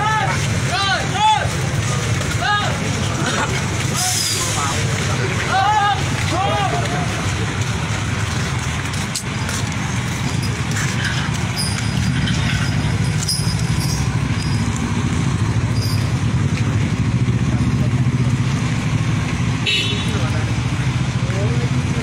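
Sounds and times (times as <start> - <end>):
vehicle engines running in traffic: 0.0 - 22.0.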